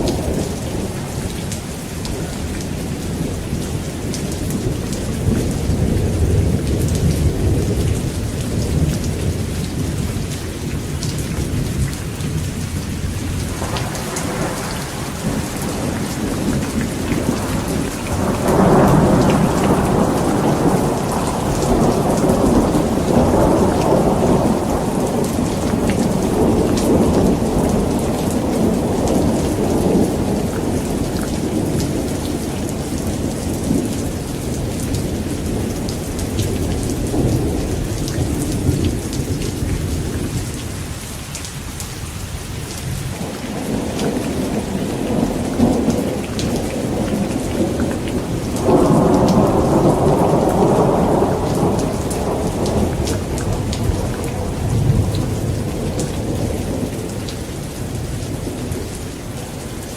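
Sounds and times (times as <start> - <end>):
heavy rain: 0.0 - 59.9
thunder rolling: 4.3 - 40.2, 43.2 - 57.2.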